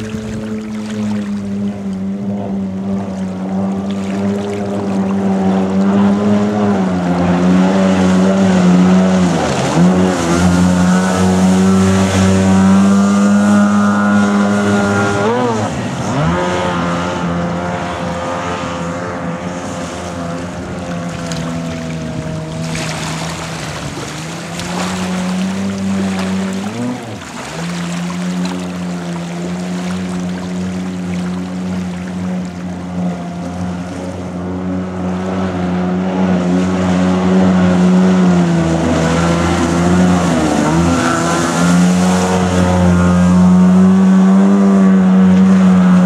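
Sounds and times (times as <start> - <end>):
two-stroke jet boat engine revving: 0.0 - 46.0.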